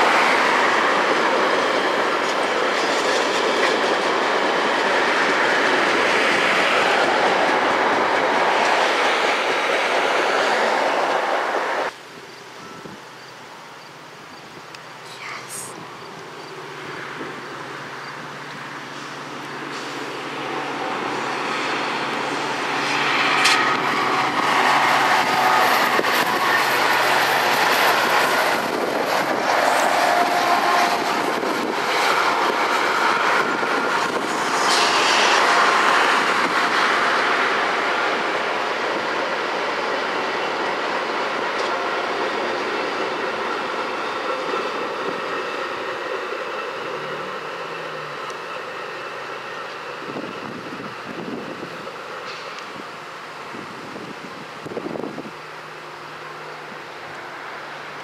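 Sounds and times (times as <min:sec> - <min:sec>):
diesel locomotive engine drone: 0:00.0 - 0:58.0
passenger cars rumbling over rails: 0:00.0 - 0:58.0.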